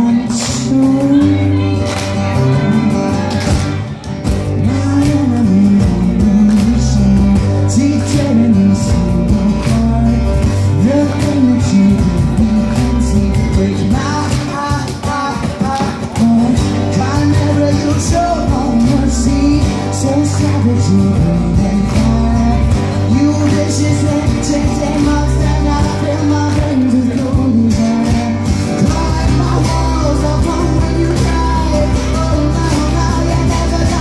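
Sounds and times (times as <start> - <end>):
person singing: 0.0 - 34.0
steady bass: 0.0 - 34.0
strummed acoustic guitar: 0.0 - 34.0.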